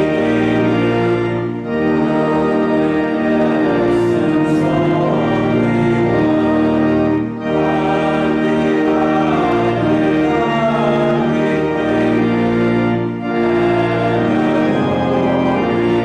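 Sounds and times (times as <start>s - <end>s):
church organ playing a hymn: 0.0s - 16.0s
voices singing: 0.0s - 16.0s.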